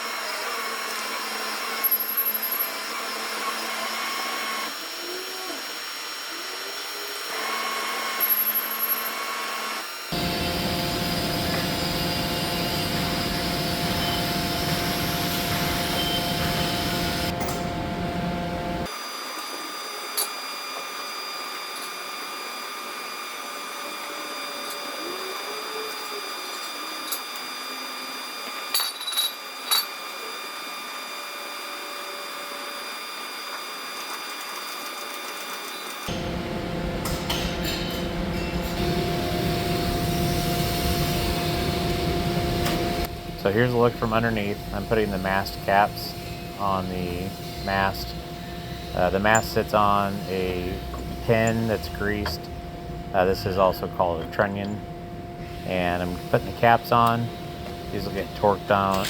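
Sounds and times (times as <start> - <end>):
crane motors whining: 0.1 - 20.1, 30.1 - 59.0.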